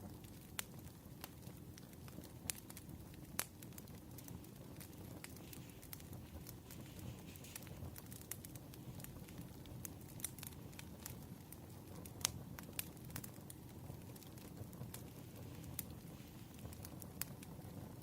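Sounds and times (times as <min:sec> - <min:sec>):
low steady rumble: 0:00.0 - 0:17.2
wood fire crackling and popping: 0:00.0 - 0:18.0.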